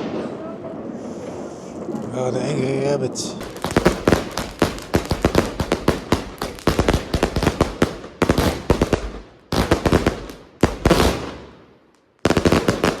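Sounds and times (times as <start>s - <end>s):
firework cake crackling bursts: 0.0s - 13.0s.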